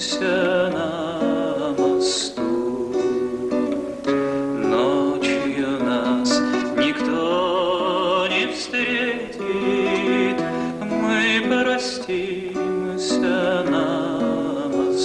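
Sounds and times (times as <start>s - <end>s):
acoustic guitar: 0.0s - 15.0s
man singing with vibrato: 0.0s - 15.0s.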